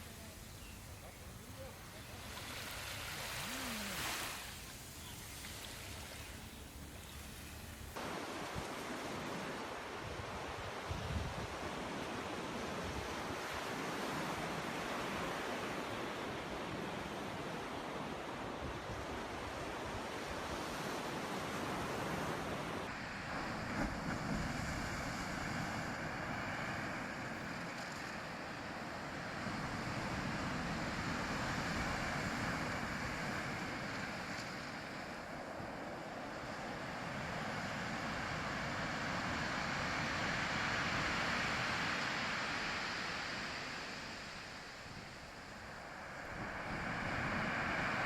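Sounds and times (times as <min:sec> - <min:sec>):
ocean waves on shore: 0:00.0 - 0:48.0.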